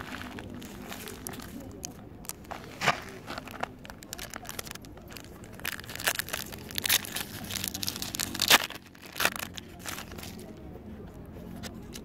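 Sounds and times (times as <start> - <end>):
foil wrapper crinkling and tearing: 0.0 - 10.5.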